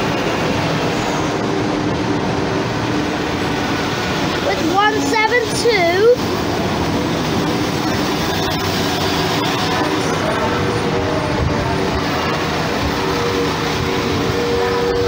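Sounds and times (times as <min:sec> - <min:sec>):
diesel train engines: 0:00.0 - 0:15.0
wheels rumbling on rail: 0:00.0 - 0:15.0.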